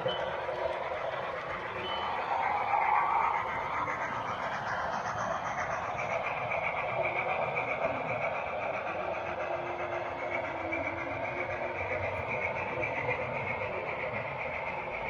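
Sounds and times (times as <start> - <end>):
model train whirring hum: 0.0 - 15.0.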